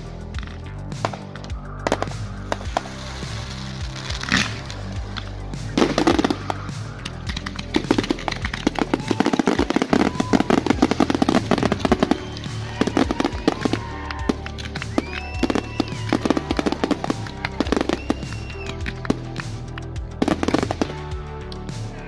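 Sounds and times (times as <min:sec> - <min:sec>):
music playing: 0:00.0 - 0:22.0
fireworks popping and crackling: 0:00.3 - 0:21.8.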